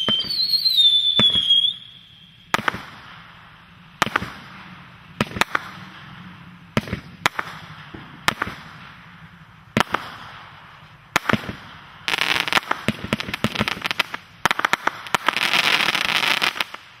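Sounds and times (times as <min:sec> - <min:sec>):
firework bangs: 0:00.0 - 0:17.0
firework crackling and popping: 0:00.0 - 0:17.0.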